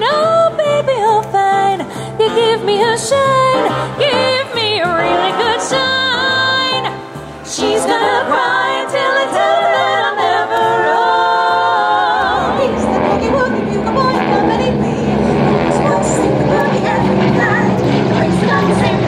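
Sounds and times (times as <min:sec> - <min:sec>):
women singing in harmony: 0:00.0 - 0:14.9, 0:15.8 - 0:19.0.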